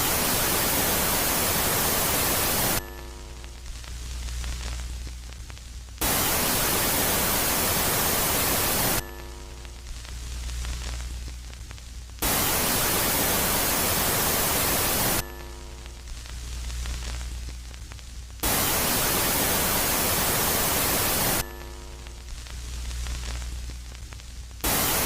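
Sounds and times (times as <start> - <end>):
loud static hiss: 0.0 - 25.0
low steady hum with held tones: 0.0 - 25.0.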